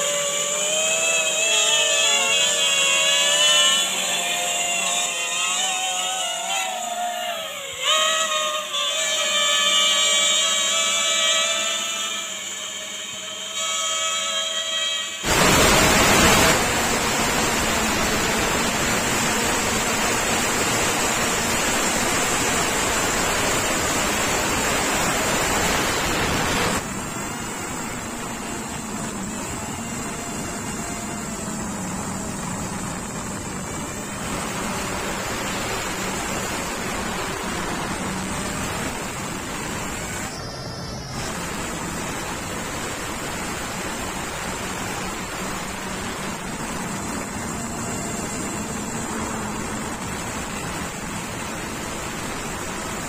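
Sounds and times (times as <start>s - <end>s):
drone motors rushing: 0.0s - 53.0s
faint high whine: 0.0s - 53.0s.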